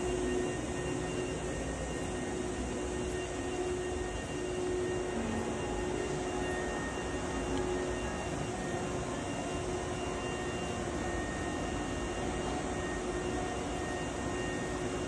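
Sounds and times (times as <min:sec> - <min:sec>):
electric train hiss and hum: 0:00.0 - 0:15.0
steady whining tones: 0:00.0 - 0:15.0.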